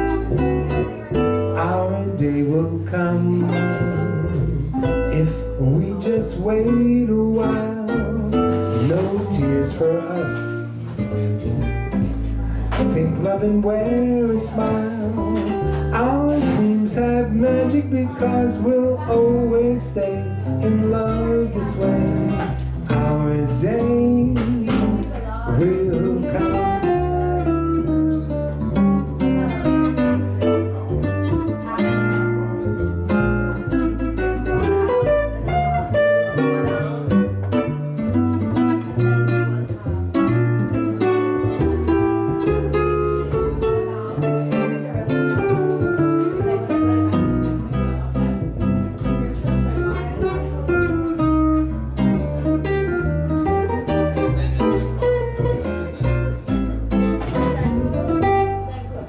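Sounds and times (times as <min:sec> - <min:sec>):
archtop guitar chords and melody: 0:00.0 - 0:59.0
plucked upright bass: 0:00.0 - 0:59.0.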